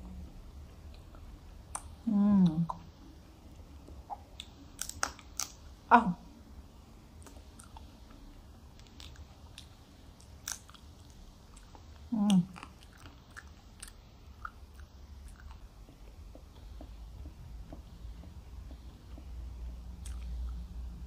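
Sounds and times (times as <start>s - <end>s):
person chewing food: 0.3s - 5.8s, 7.1s - 21.0s.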